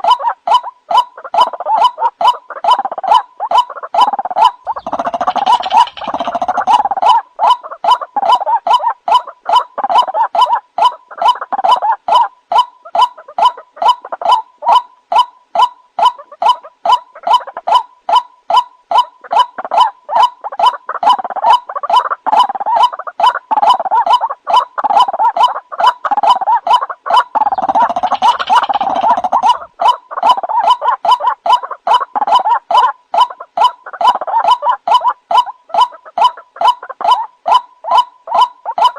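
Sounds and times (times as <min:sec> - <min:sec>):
bird croaking call: 0:00.0 - 0:38.9.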